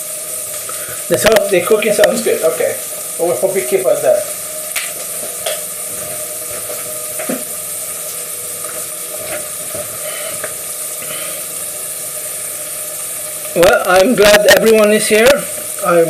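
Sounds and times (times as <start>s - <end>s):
onions sizzling in a pan: 0.0s - 16.0s.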